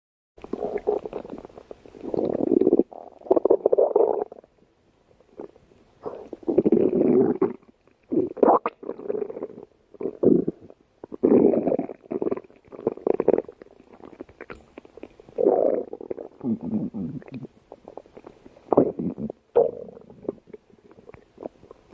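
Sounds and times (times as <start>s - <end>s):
stomach growling: 0.4s - 4.5s, 5.4s - 21.9s.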